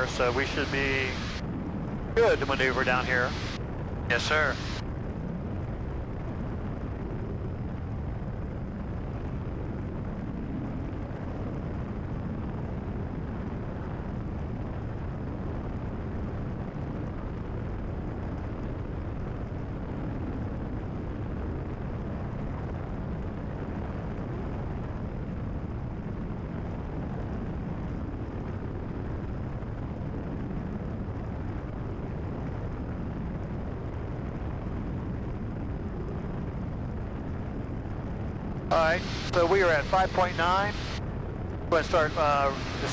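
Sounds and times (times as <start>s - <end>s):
airplane engine drone in cabin: 0.0s - 42.9s.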